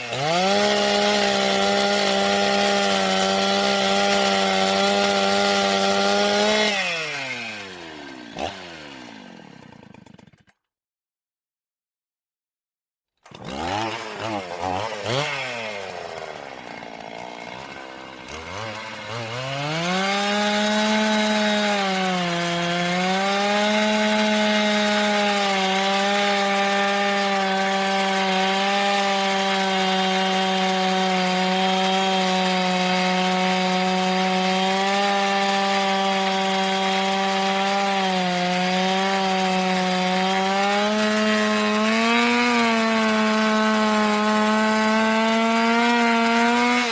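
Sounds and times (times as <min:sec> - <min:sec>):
chainsaw cutting wood: 0:00.0 - 0:10.6, 0:13.2 - 0:46.9
chainsaw revving: 0:00.0 - 0:10.6, 0:13.2 - 0:46.9.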